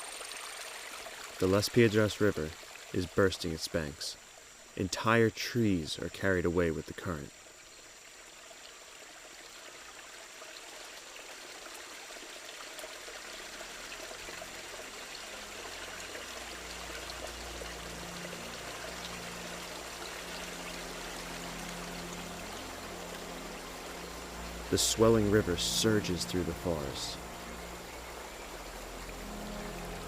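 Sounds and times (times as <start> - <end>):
flooded river water rushing: 0.0 - 7.5, 8.5 - 30.0.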